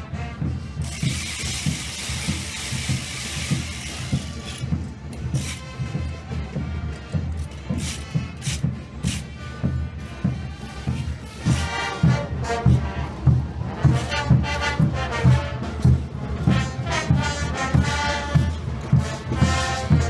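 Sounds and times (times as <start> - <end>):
brass band playing dance music: 0.0 - 4.7, 5.4 - 20.0.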